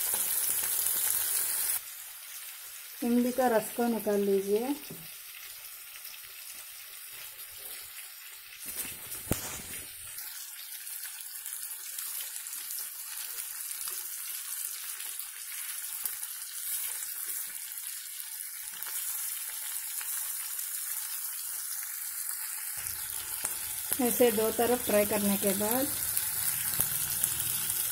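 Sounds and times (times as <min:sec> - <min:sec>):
fish sizzling in oil: 0:00.0 - 0:27.9.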